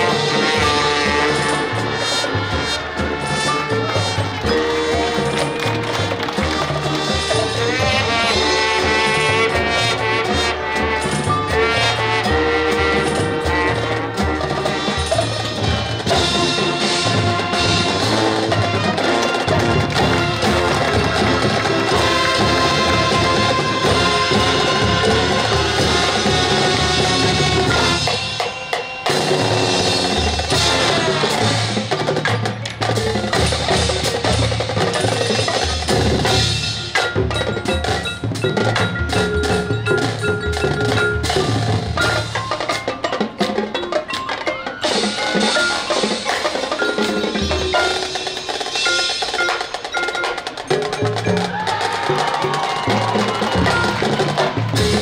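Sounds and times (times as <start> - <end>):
marching band chords: 0.0 - 55.0
marimba and glockenspiel figure: 0.0 - 55.0.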